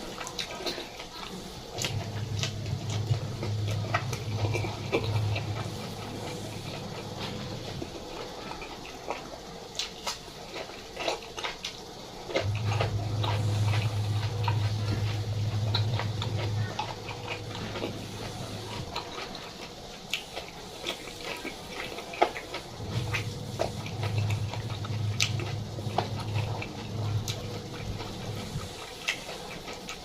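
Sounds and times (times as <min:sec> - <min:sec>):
crunching and chewing: 0:00.0 - 0:30.0
steady low hum: 0:00.0 - 0:30.0.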